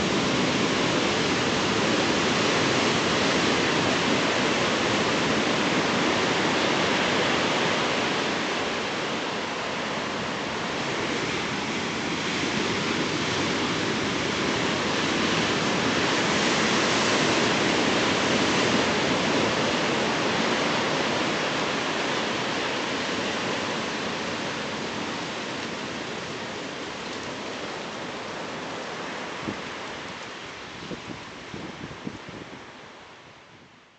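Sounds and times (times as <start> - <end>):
surf breaking on rocky beach: 0.0 - 30.2.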